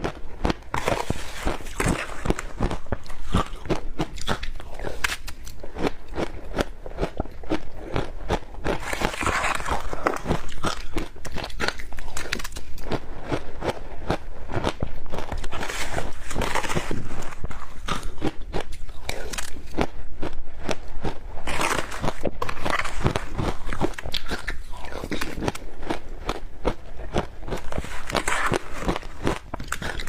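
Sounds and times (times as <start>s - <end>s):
ice crunched between teeth: 0.0s - 30.0s.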